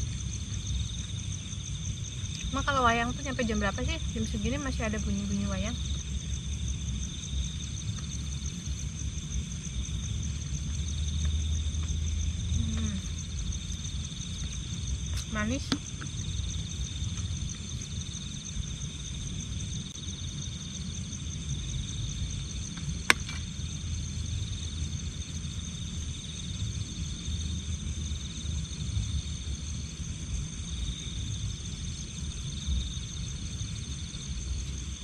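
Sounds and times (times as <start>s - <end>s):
crickets chirping chorus: 0.0s - 35.0s.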